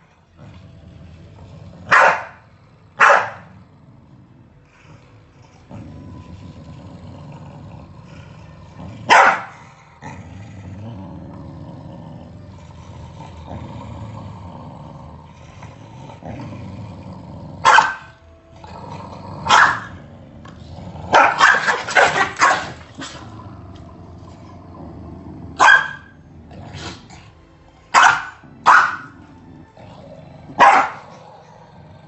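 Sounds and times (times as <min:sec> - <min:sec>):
dog growling low: 0:00.0 - 0:32.0.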